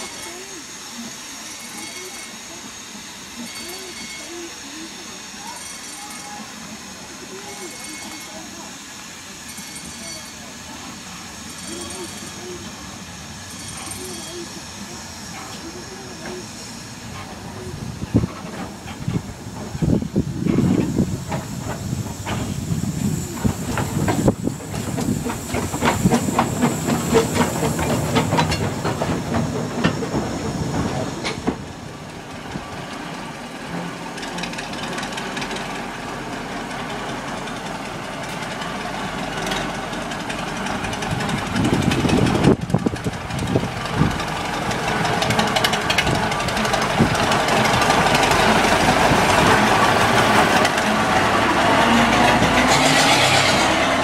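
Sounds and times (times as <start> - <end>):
diesel locomotive engine: 0.0 - 54.0
steam locomotive hissing: 0.0 - 54.0.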